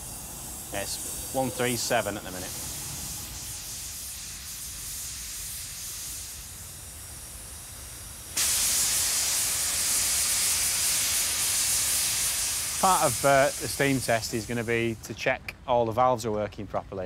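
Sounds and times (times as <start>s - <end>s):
steam blowing off valve: 0.0s - 15.2s
steam hissing from boiler: 0.0s - 15.4s.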